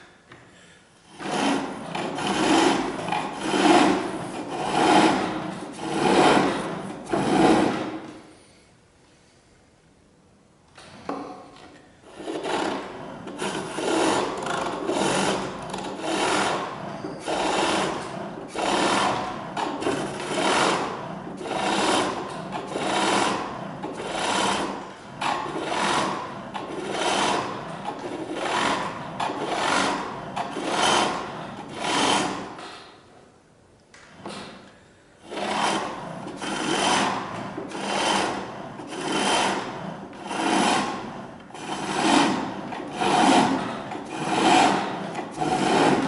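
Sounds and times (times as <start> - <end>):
chisel shaving spinning wood: 1.0 - 8.3, 12.0 - 32.7, 35.2 - 46.0.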